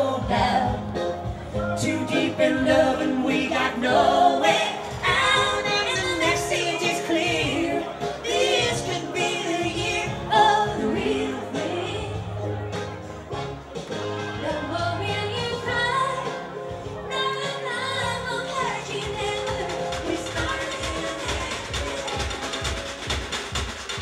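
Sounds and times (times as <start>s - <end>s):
woman singing lead: 0.0s - 12.5s, 14.3s - 22.7s
live pop band playing: 0.0s - 24.0s.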